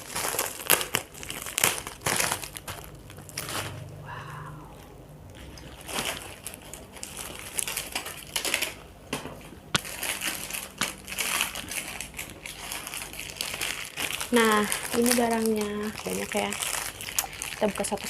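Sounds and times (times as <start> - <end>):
packaging crinkling and rustling: 0.0 - 3.9, 5.3 - 18.0.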